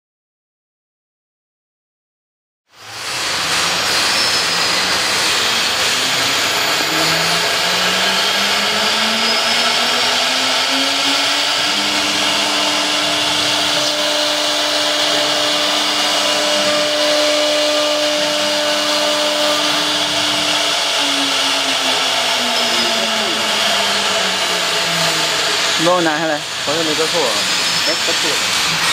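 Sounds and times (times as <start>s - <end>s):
cnc router cutting: 2.7s - 28.9s.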